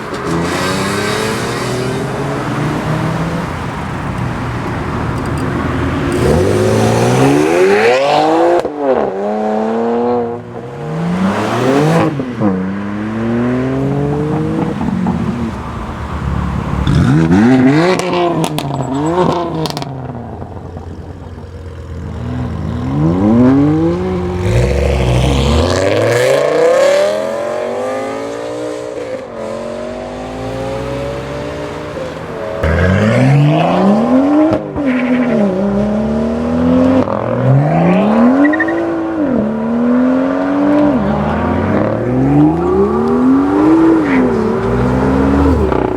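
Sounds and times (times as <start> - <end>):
cars accelerating hard: 0.0 - 45.9.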